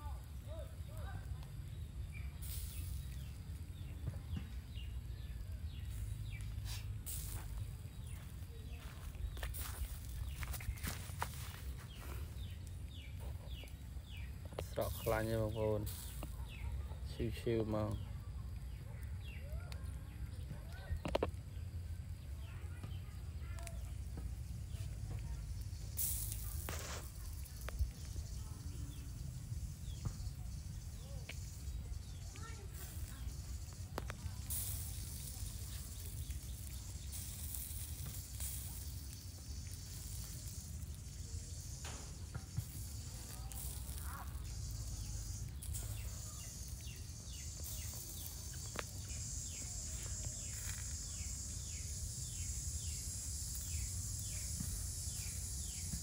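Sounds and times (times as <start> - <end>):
charcoal fire crackling and popping: 0.0 - 56.0
low rumble of coals: 0.0 - 56.0
steam hissing on hot coals: 0.0 - 56.0.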